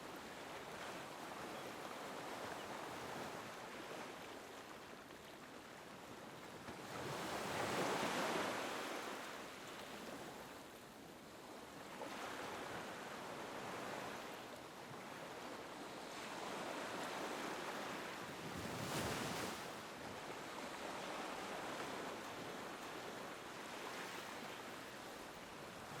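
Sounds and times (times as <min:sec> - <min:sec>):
small waves lapping on beach: 0:00.0 - 0:26.0.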